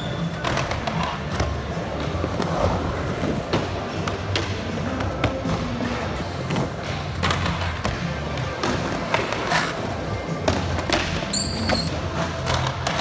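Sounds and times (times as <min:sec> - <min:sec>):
skateboard wheels rolling: 0:00.0 - 0:13.0.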